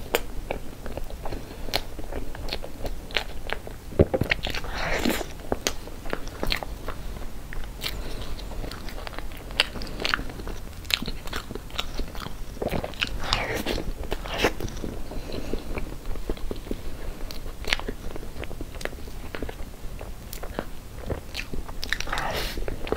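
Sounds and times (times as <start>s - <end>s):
wet chewing and mouth sounds: 0.0s - 22.9s.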